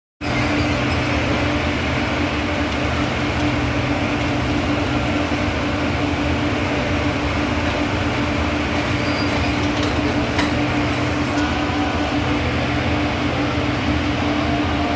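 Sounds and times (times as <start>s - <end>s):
heavy engine droning: 0.2s - 14.9s.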